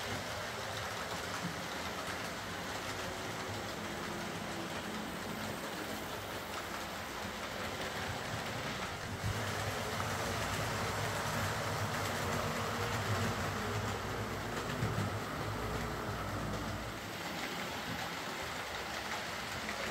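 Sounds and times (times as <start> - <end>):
model train wheels clicking on rails: 0.0 - 19.9
model train motor humming: 3.4 - 19.8.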